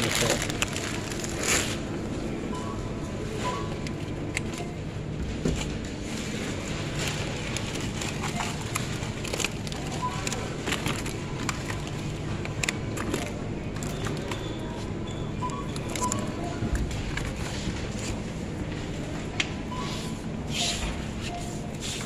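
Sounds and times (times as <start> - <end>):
shopping bags rustling: 0.0 - 19.3
store hum: 0.0 - 22.0
faint checkout beeps: 1.7 - 22.0.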